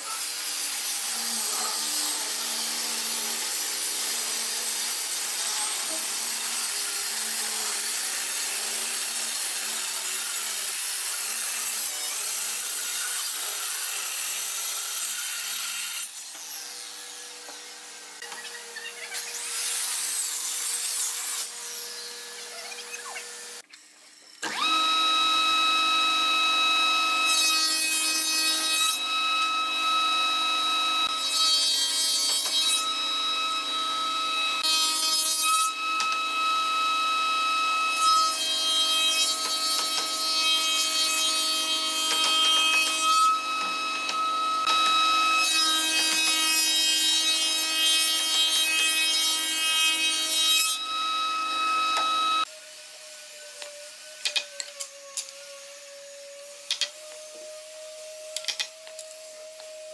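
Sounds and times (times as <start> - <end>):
circular saw cutting wood: 0.0 - 23.6, 24.2 - 59.9
cutter cutting board: 0.0 - 23.6, 24.2 - 52.5, 56.6 - 59.9.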